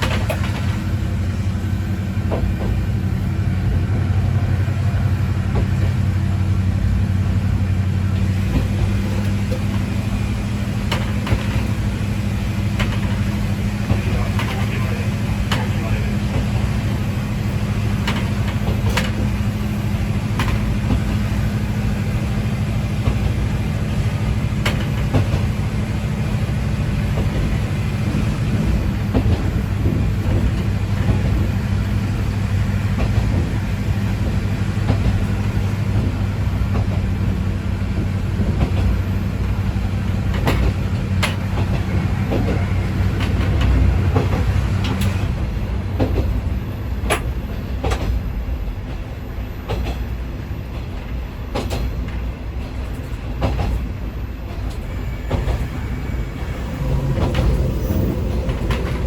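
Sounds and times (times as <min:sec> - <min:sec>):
diesel engine drone: 0:00.0 - 0:47.8, 0:54.1 - 0:59.0
wheels clacking over rail joints: 0:00.0 - 0:59.0.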